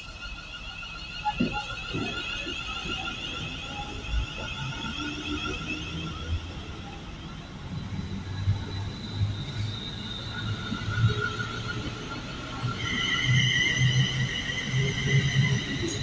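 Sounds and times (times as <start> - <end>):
electric train whine and rumble: 0.0 - 16.0.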